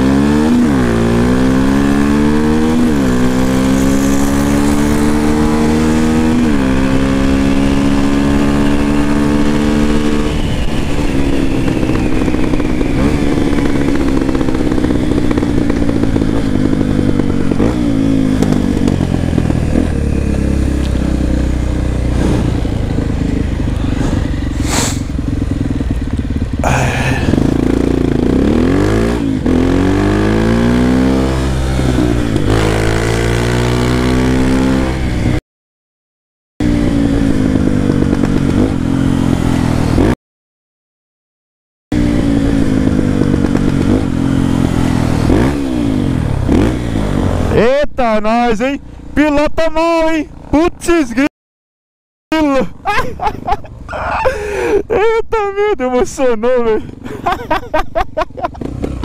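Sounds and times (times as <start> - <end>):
motorcycle engine revving: 0.0 - 35.4, 36.6 - 40.2, 41.9 - 50.9, 56.8 - 59.0.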